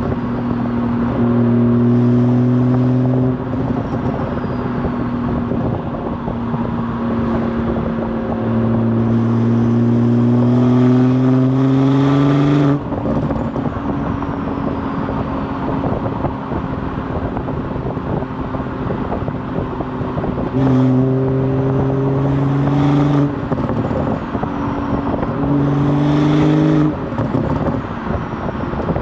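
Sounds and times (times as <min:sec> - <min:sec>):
car exhaust revving: 0:00.0 - 0:29.0.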